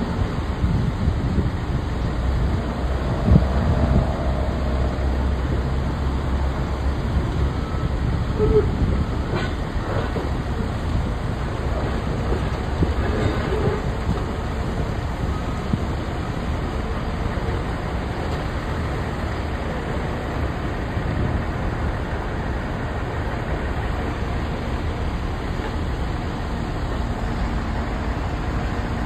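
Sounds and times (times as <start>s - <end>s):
diesel demolition equipment running: 0.0s - 29.0s.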